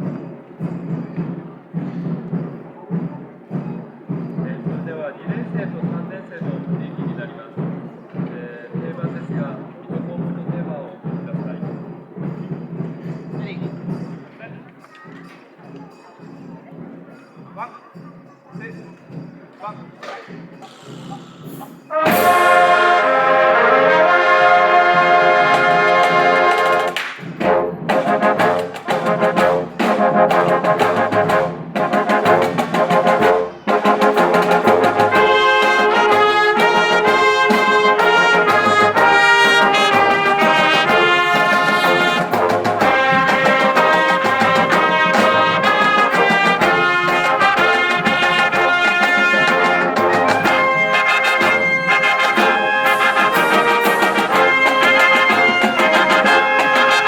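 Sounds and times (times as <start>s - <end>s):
marching band playing: 0.0s - 57.0s
sharp percussion hits: 11.0s - 57.0s.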